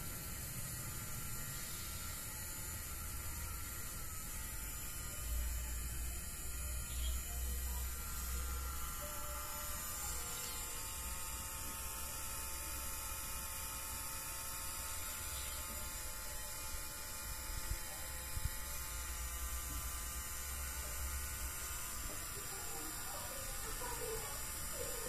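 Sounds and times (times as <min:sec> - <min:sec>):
small motor whirring: 0:00.0 - 0:25.0.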